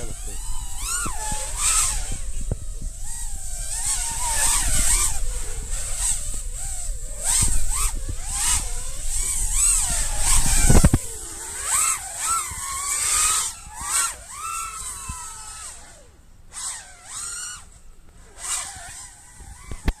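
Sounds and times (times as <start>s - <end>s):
wind rumble on microphone: 0.0s - 16.0s
drone motors whining: 0.0s - 20.0s.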